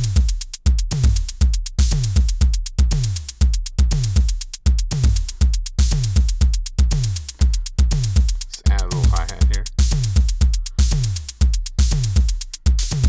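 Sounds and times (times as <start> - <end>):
deep kick drums: 0.0 - 13.0
drum machine beat: 0.0 - 13.0.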